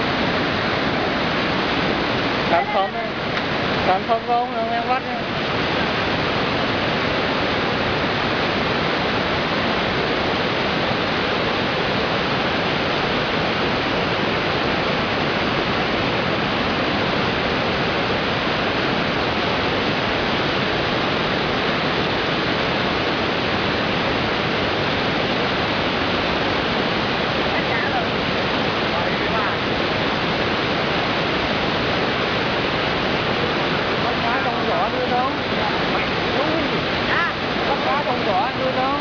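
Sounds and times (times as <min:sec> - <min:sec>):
falling water rushing: 0:00.0 - 0:39.0.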